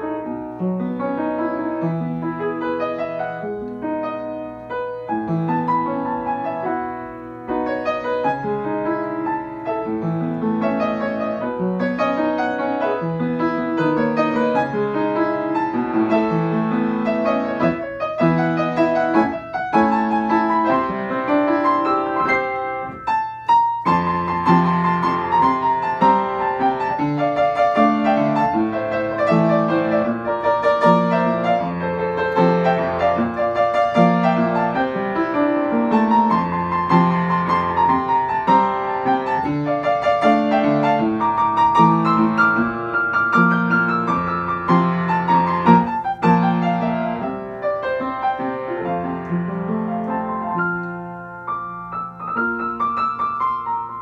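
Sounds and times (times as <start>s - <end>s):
solo piano playing: 0.0s - 54.0s.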